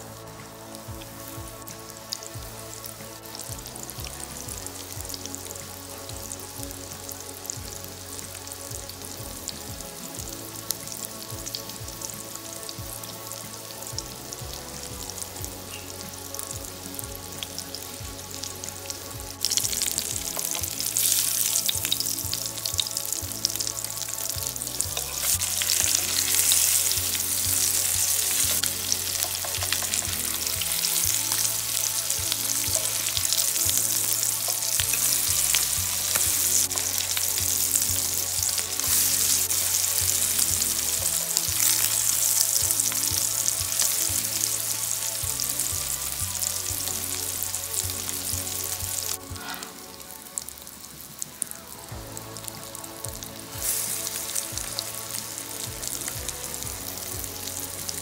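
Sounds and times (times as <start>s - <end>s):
croquettes sizzling in a pan: 0.0s - 58.0s
soft background music: 0.0s - 58.0s.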